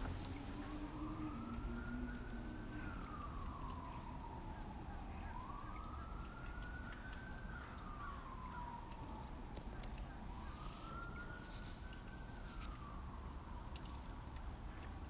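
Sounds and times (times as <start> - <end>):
siren wailing: 0.0 - 14.5.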